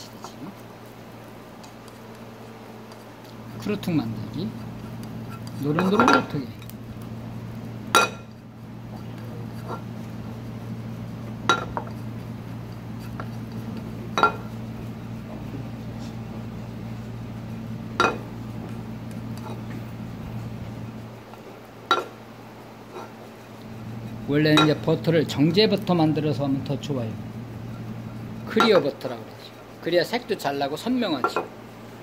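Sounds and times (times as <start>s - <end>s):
bread sauteing in butter: 0.0s - 32.0s
steady low hum: 0.0s - 32.0s.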